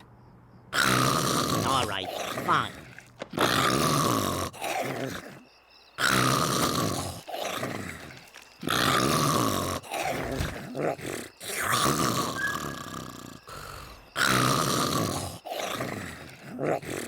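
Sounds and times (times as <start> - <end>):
cartoon snoring: 0.8 - 5.4, 6.0 - 17.0.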